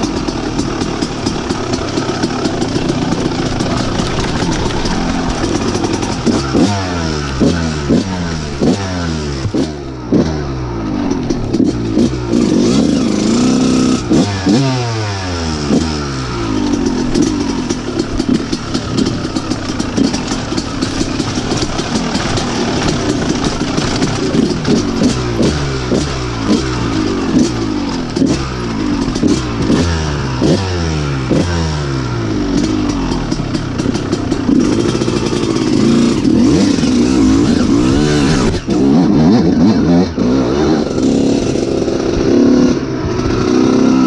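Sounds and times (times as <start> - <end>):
two-stroke motorcycle engine revving: 0.0 - 44.0.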